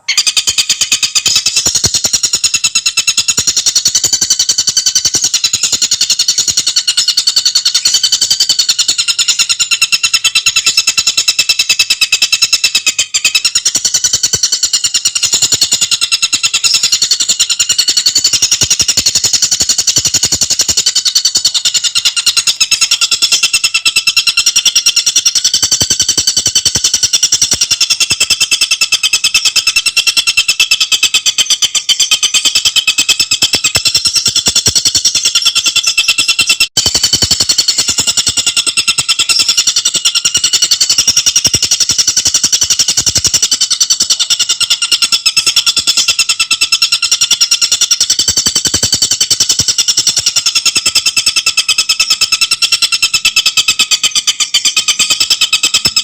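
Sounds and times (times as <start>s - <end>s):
bird singing chattering trill: 0.0s - 56.0s.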